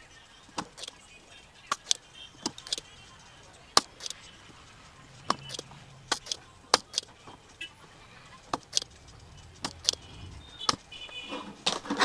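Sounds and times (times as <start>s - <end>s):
desoldering pump clicks: 0.4s - 12.0s.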